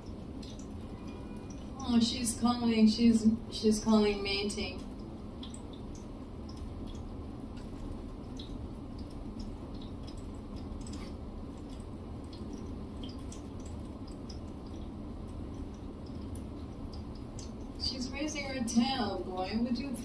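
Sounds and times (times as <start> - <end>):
steady low background hum: 0.0 - 20.0.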